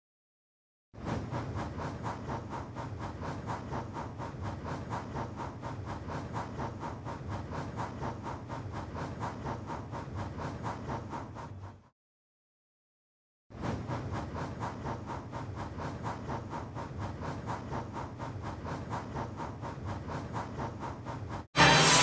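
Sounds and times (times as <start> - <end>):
steam locomotive chuffing: 1.0 - 11.9, 13.6 - 22.0.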